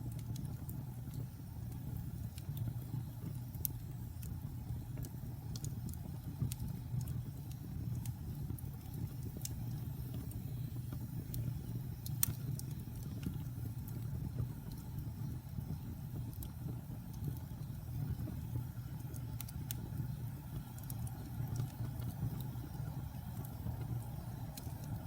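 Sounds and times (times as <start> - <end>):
fire crackles and pops: 0.0 - 25.0
fireplace flames rumbling: 0.0 - 25.0.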